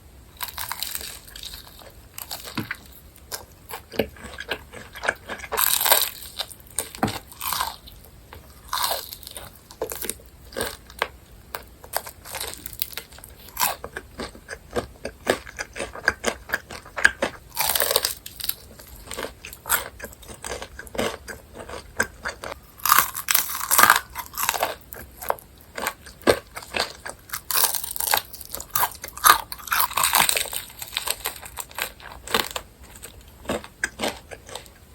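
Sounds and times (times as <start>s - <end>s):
crunchy fried chicken being chewed: 0.4s - 34.9s.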